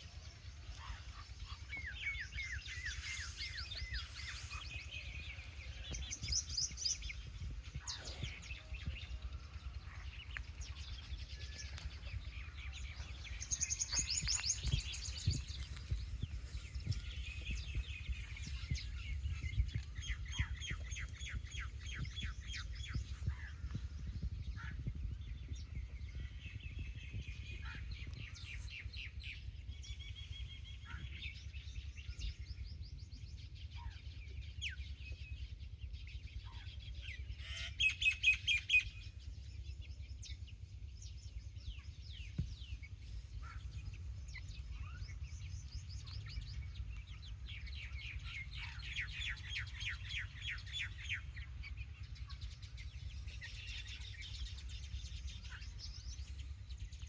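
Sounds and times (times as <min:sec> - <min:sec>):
low rumble: 0:00.0 - 0:37.8, 0:38.8 - 0:57.0.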